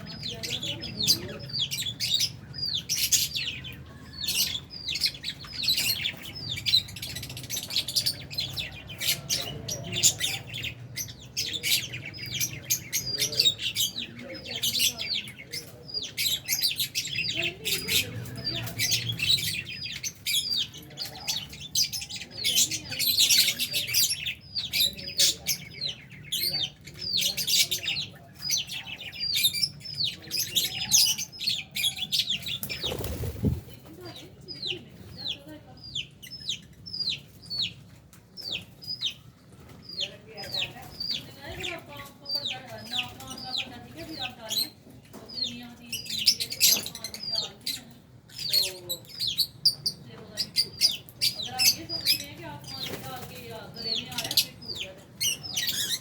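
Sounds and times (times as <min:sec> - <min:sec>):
birds chirping and squawking: 0:00.0 - 0:56.0.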